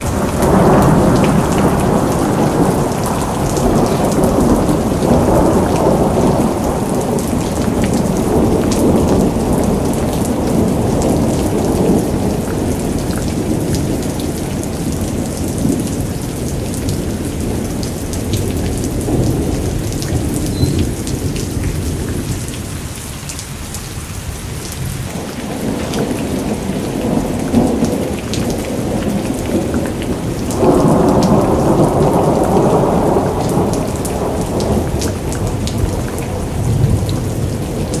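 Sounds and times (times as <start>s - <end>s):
rolling thunder: 0.0s - 23.0s, 24.3s - 38.0s
steady rain: 0.0s - 38.0s.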